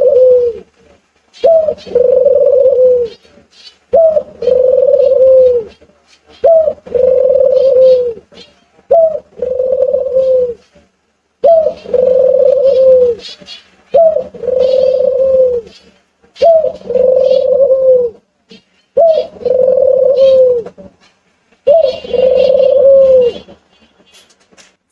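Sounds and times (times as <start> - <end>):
dove cooing: 0.0 - 0.8, 1.4 - 10.7, 11.4 - 20.9, 21.6 - 23.6
small birds chirping: 1.3 - 10.7, 11.4 - 20.7, 21.6 - 23.5.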